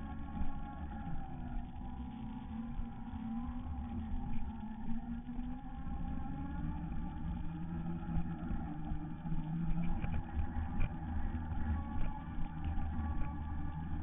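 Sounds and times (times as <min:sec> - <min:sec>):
low rumble of wheels: 0:00.0 - 0:14.0.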